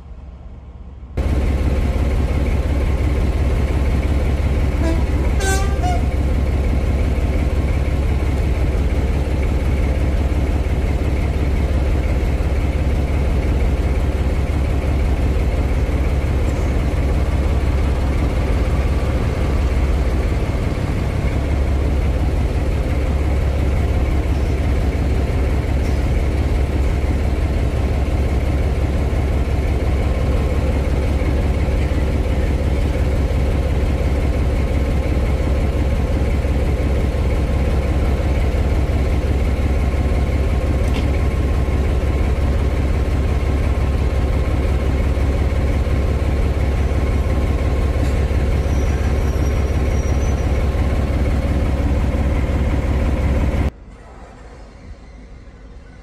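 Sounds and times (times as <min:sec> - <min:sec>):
locomotive engine idling: 0:01.2 - 0:54.6.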